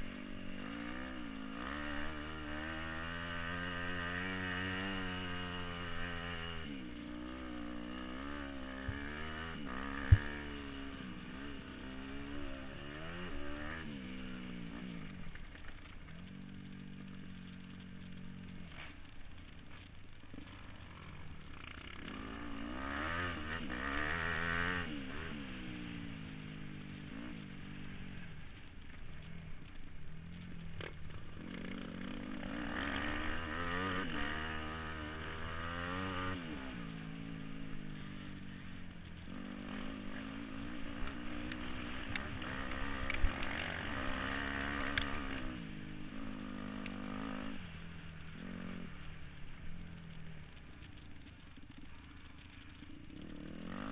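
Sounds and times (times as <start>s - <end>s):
motocross bike engines: 0.0s - 53.9s.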